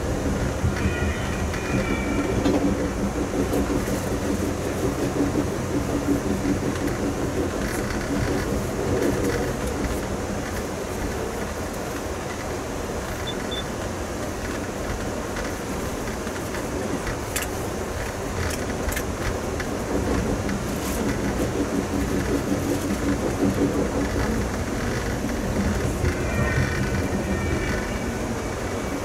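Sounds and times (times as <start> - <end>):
train rumbling and rattling: 0.0 - 29.0.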